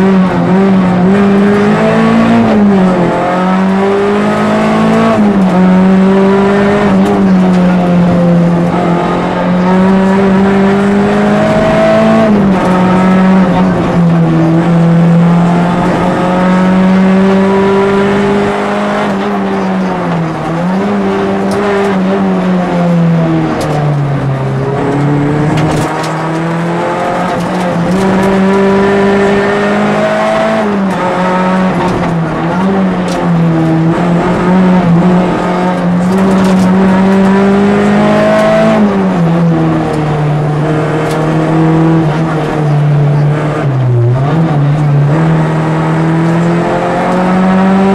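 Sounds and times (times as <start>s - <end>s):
rally car engine accelerating: 0.0s - 47.9s.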